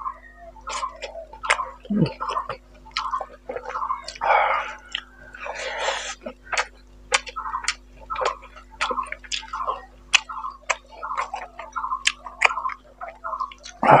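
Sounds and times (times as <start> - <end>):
chewing with mouth clicks: 0.6 - 14.0.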